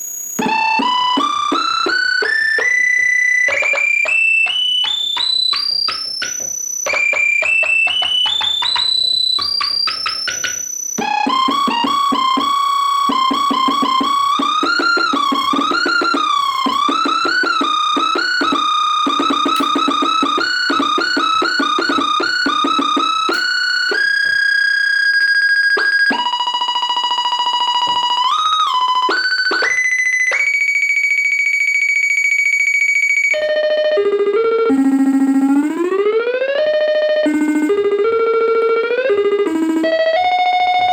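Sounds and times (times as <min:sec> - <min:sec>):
bright buzzy synthesizer: 0:00.0 - 0:40.9.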